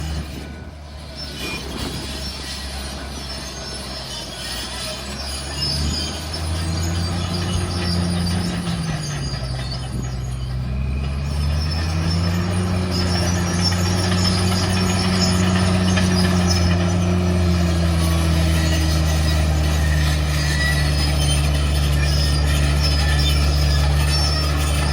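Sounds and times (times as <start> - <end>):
diesel truck engine running: 0.0 - 24.9
faint high squeals: 0.0 - 24.9.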